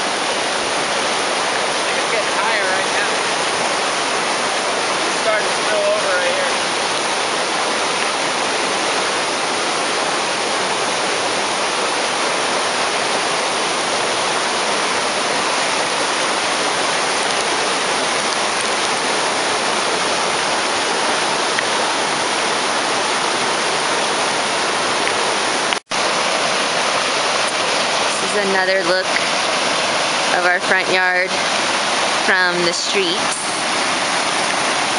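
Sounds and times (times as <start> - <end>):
creek rushing: 0.0 - 34.9.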